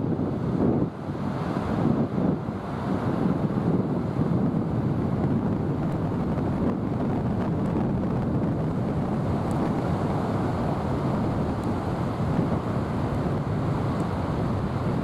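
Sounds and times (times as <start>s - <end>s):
surf rushing on beach: 0.0s - 15.0s
wind buffeting microphone: 0.0s - 15.0s.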